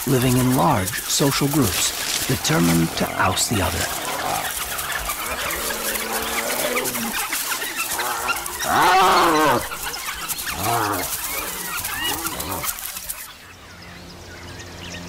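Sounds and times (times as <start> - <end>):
animals scuffling: 0.0 - 13.4
rising and falling calls: 0.0 - 13.4.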